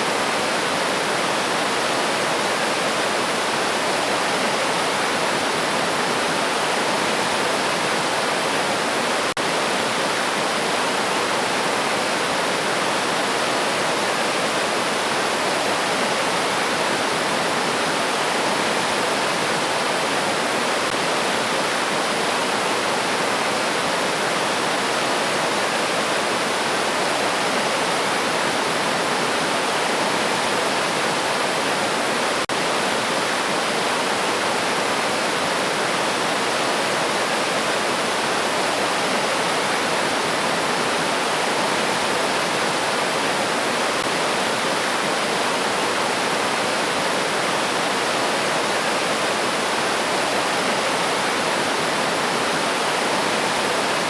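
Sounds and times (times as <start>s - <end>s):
river stream flowing: 0.0s - 54.0s.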